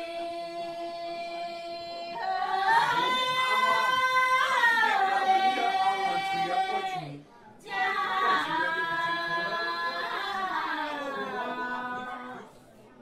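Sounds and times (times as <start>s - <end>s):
women singing unaccompanied: 0.0s - 12.6s.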